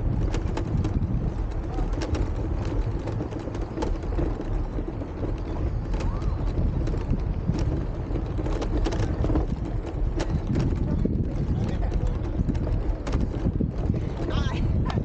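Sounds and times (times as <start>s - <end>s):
low rumble: 0.0s - 15.0s
sharp clicks and knocks: 0.0s - 15.0s.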